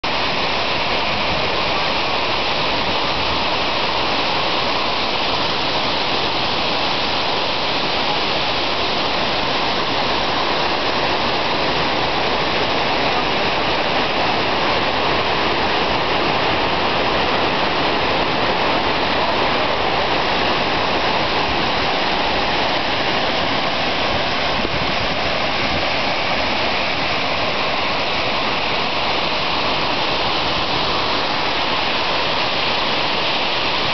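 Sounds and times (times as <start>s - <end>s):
waterfall pouring onto rocks: 0.0s - 33.9s.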